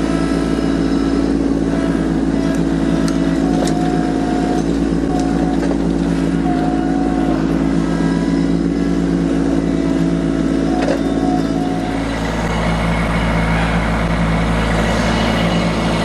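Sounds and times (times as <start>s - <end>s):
high-pitched whines: 0.0s - 16.0s
tractor diesel engine running: 0.0s - 16.0s.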